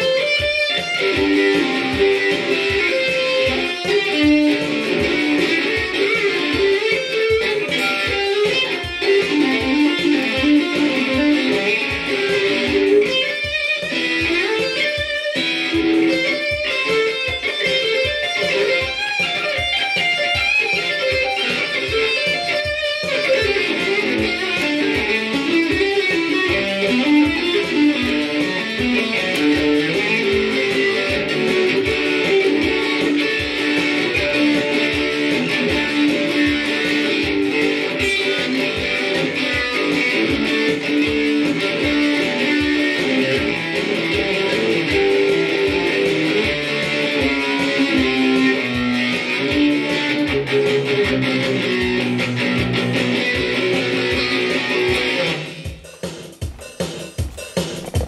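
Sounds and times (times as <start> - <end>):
steady beat: 0.0 - 58.0.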